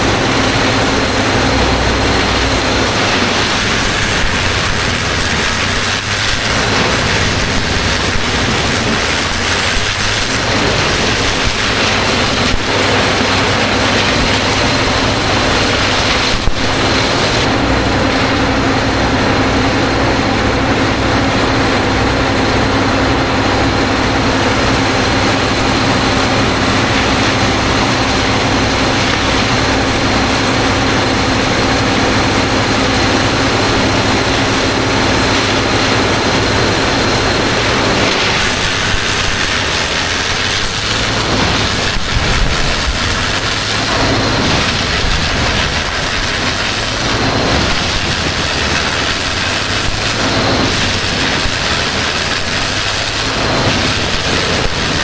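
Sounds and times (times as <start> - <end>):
rush of blown wood chips: 0.0 - 55.0
wood chipper engine drone: 0.0 - 55.0.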